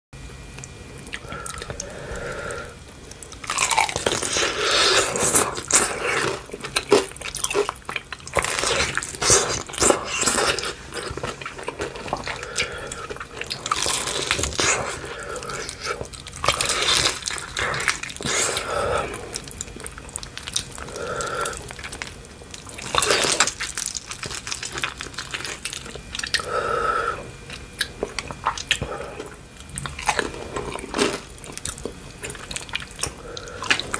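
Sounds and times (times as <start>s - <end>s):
chewing: 0.6s - 33.9s
crunching fried chicken: 0.6s - 33.9s.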